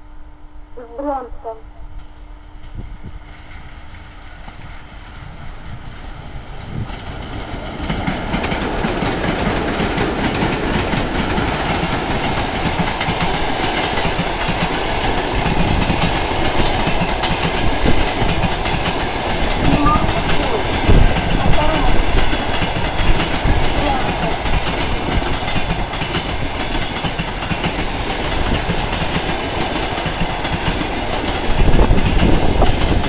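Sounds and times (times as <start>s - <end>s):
passing train rumble: 0.0s - 33.0s
train wheels clattering on rails: 2.0s - 33.0s.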